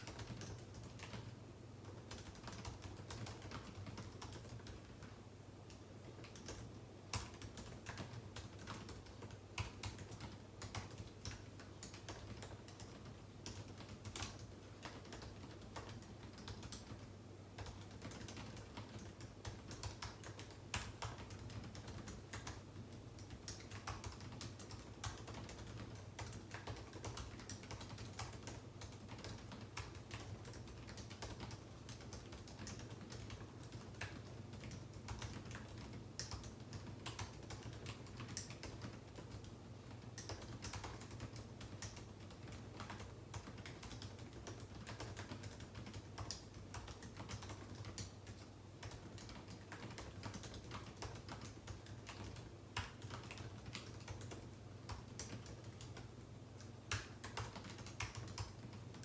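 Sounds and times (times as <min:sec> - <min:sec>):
computer keyboard typing: 0:00.0 - 0:59.0.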